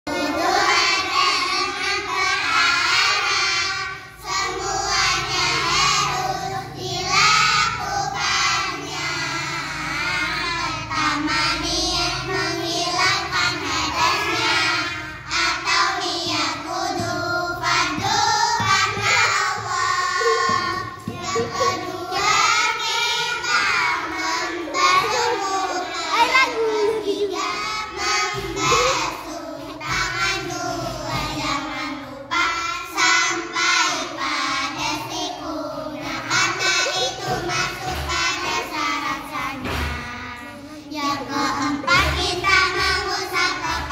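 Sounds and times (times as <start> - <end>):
girls chanting in unison: 0.1 - 43.9.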